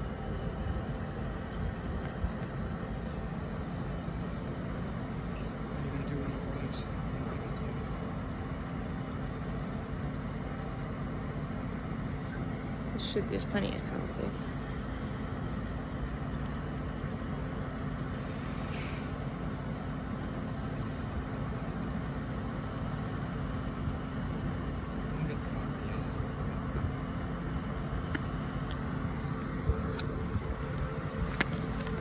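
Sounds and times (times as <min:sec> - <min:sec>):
ferry engine hum: 0:00.0 - 0:32.0.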